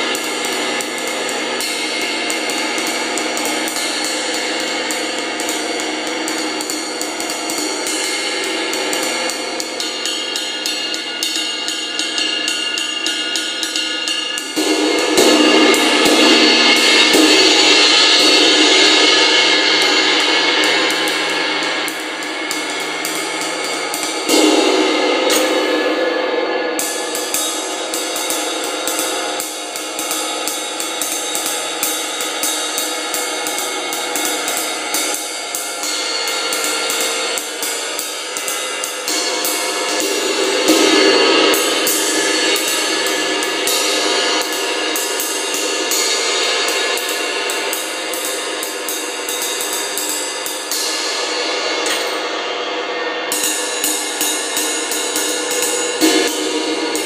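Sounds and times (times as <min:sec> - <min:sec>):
drumstick striking ride cymbal: 0:00.0 - 0:57.0.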